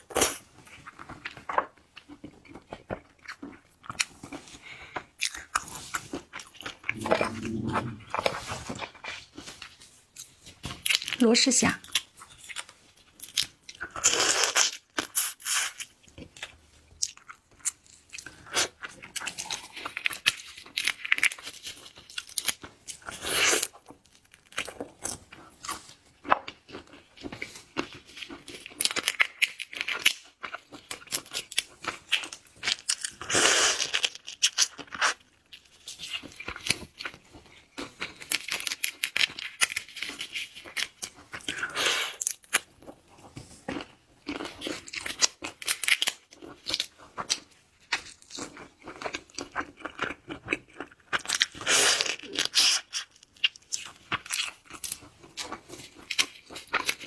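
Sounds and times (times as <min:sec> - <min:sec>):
chewing: 0:00.1 - 0:11.2, 0:11.8 - 0:57.0.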